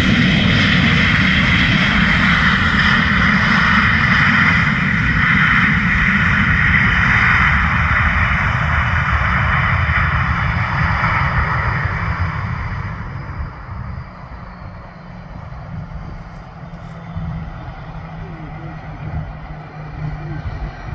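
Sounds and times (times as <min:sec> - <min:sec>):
loud rushing jet engine noise: 0:00.0 - 0:20.9
low rumble: 0:00.0 - 0:20.9.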